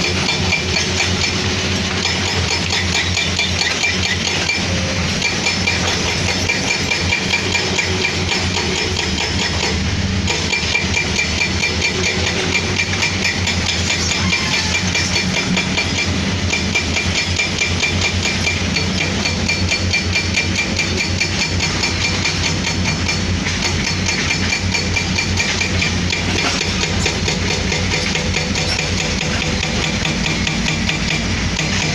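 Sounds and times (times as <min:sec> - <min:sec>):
excavator diesel engine clattering: 0:00.0 - 0:31.9.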